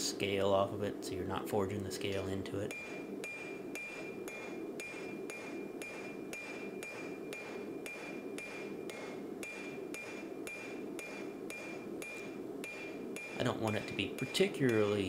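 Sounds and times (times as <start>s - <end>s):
hammer striking blade on anvil: 2.7s - 15.0s.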